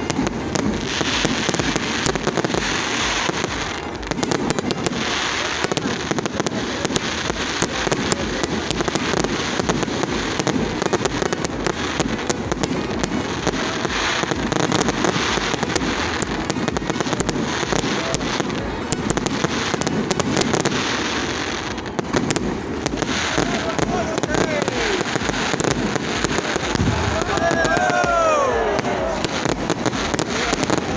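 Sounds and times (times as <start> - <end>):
fireworks crackling and banging: 0.0 - 30.9.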